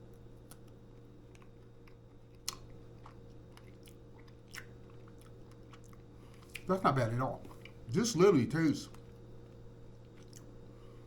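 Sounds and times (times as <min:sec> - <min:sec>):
chewing crunchy candy bar: 0:00.0 - 0:08.0, 0:08.8 - 0:11.0
steady low hum: 0:00.0 - 0:11.0.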